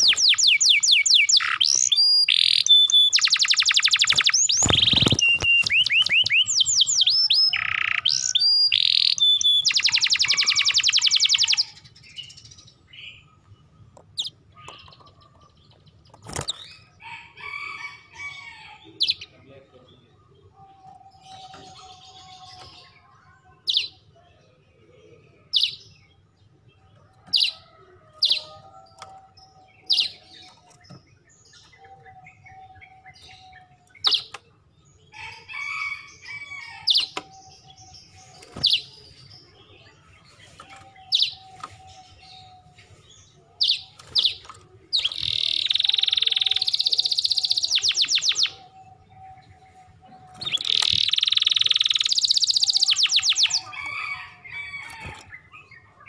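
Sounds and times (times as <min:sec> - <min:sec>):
canary chirping: 0:00.0 - 0:19.3, 0:27.3 - 0:56.0
canary trilling song: 0:00.0 - 0:19.3, 0:20.2 - 0:24.2, 0:25.5 - 0:56.0.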